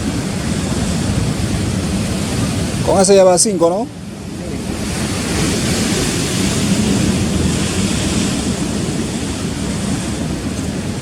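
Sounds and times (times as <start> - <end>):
sea surf washing over rocks: 0.0 - 11.0.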